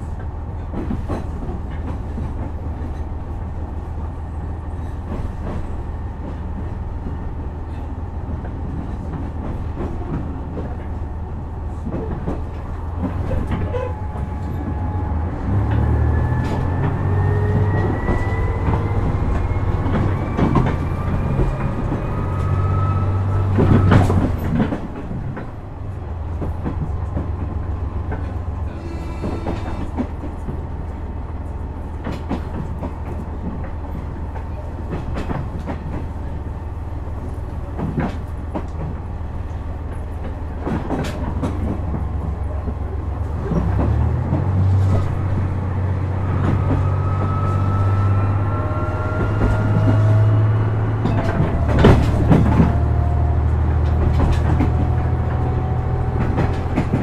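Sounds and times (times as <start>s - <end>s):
rail-joint clicks: 0.0s - 3.6s, 4.7s - 57.0s.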